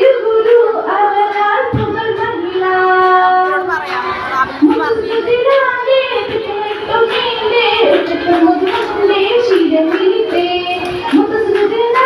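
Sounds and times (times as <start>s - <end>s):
girl singing into a microphone: 0.0s - 12.0s.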